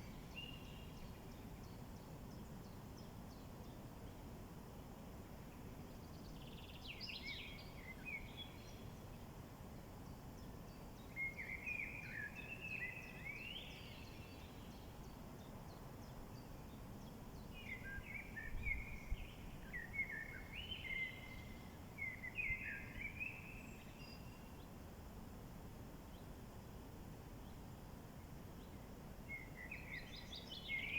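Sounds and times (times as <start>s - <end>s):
songbird singing: 0.0s - 4.2s, 5.4s - 24.8s, 27.4s - 30.9s
low outdoor background noise: 0.0s - 30.9s.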